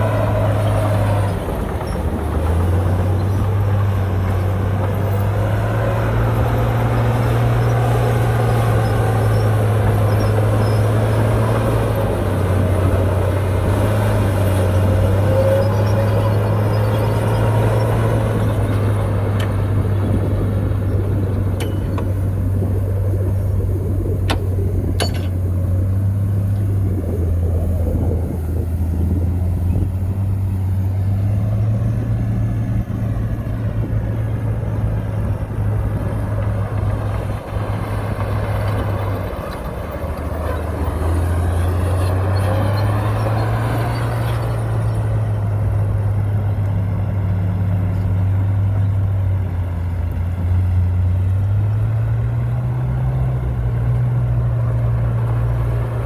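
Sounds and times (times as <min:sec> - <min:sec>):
heavy machine diesel engine humming: 0:00.0 - 0:56.0.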